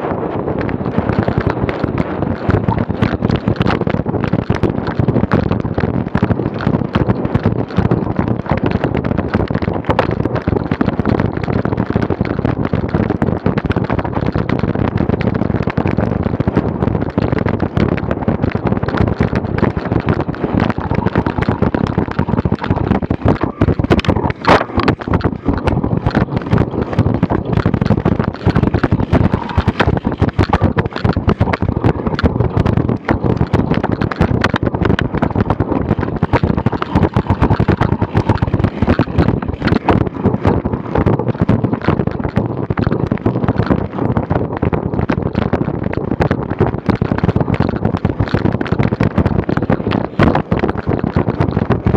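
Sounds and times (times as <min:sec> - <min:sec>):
wind buffeting microphone: 0:00.0 - 0:51.9
bicycle rattling over bumpy grass: 0:00.4 - 0:51.9.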